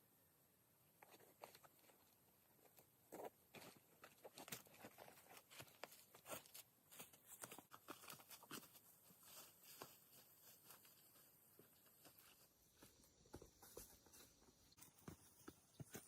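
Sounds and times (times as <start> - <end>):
faint clicks and taps: 1.0 - 16.0.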